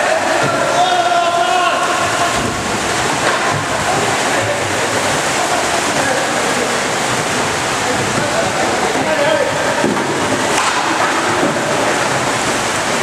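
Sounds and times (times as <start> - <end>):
paddles splashing water: 0.0 - 13.0.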